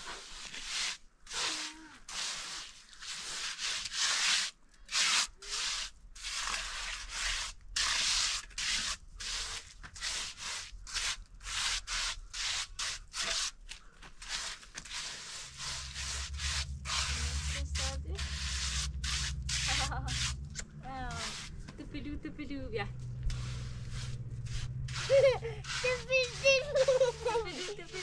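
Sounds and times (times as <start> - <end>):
rough surface rasping strokes: 0.0 - 21.8, 22.9 - 28.0.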